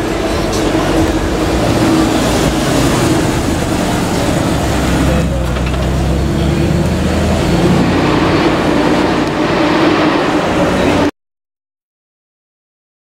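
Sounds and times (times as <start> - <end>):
people: 0.0 - 11.1
street traffic: 0.0 - 11.1
car engine running at low speed: 0.1 - 11.1.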